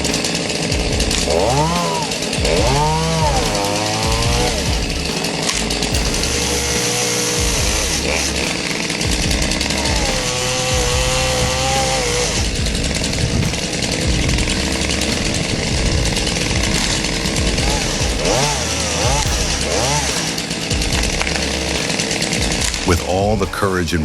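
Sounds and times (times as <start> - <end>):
chainsaw revving: 0.0 - 23.8.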